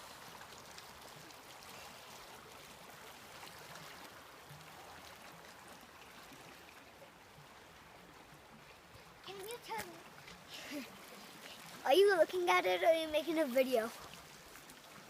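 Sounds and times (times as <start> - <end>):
brook babbling: 0.0 - 15.0.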